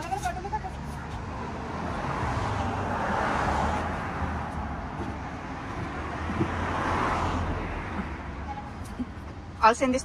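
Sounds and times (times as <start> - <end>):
low traffic rumble: 0.0 - 10.0
vehicle passing: 0.2 - 9.6.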